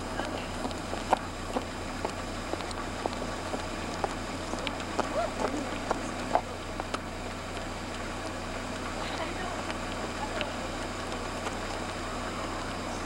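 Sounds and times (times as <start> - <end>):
faint voices: 0.0 - 13.0
low hum and hiss: 0.0 - 13.0.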